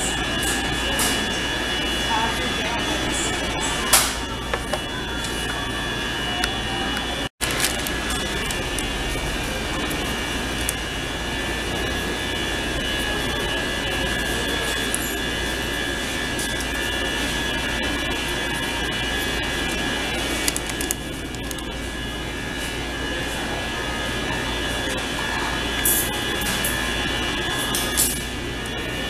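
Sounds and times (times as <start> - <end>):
mechanical drone with high tones: 0.0 - 29.0.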